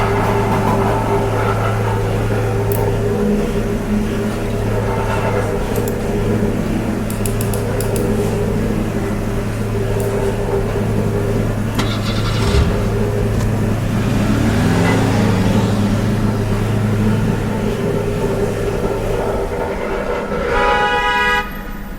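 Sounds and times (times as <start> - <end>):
steady motor hum: 0.0 - 21.9.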